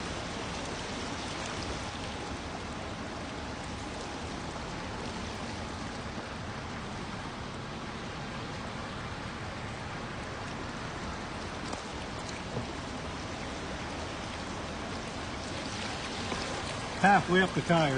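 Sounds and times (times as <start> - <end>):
water rushing: 0.0 - 17.9.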